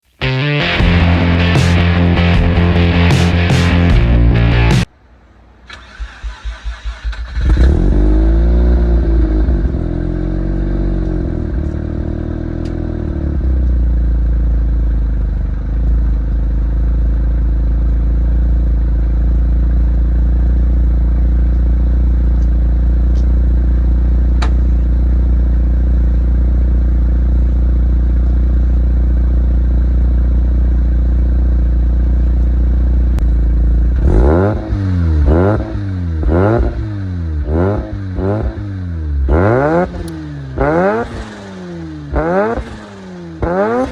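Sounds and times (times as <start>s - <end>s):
rotary engine cranking and idling: 5.7s - 43.9s.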